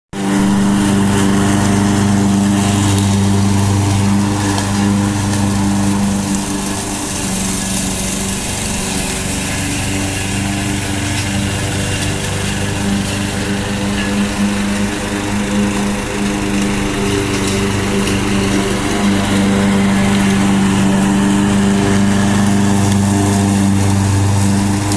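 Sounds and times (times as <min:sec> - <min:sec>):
lawn mower engine running: 0:00.1 - 0:24.9.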